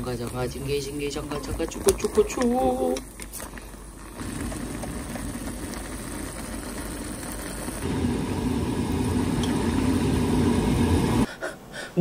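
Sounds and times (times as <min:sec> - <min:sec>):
pot boiling bubbling: 0:00.0 - 0:11.3.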